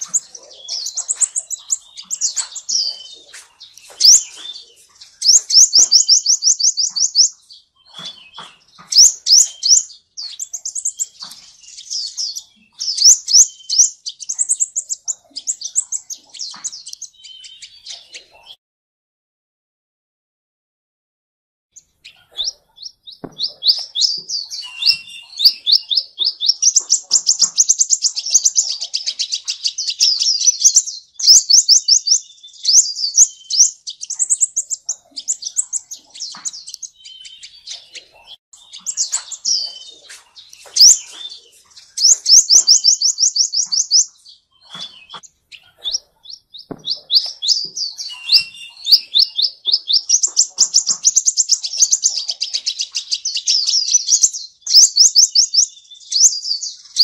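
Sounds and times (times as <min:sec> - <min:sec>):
sunbird singing: 0:00.0 - 0:18.6, 0:21.8 - 0:57.0.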